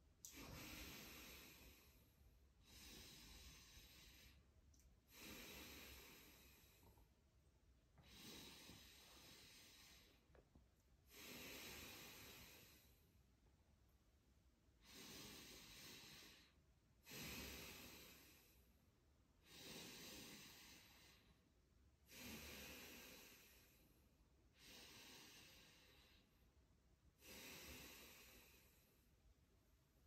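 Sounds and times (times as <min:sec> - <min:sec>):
man breathing slowly: 0:00.2 - 0:07.2, 0:08.0 - 0:13.2, 0:14.7 - 0:18.8, 0:19.4 - 0:26.5, 0:27.2 - 0:29.2.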